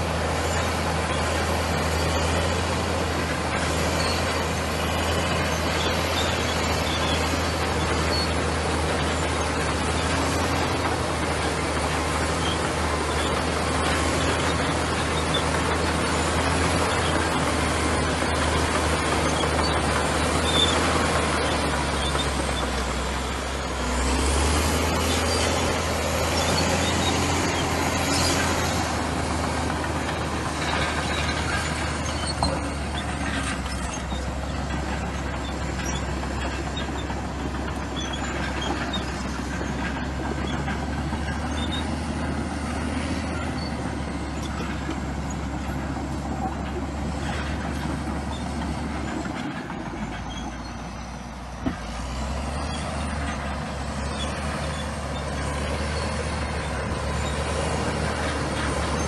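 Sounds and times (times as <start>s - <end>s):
bulldozer diesel engine: 0.0s - 59.0s
high squeal from tracks: 0.0s - 59.0s.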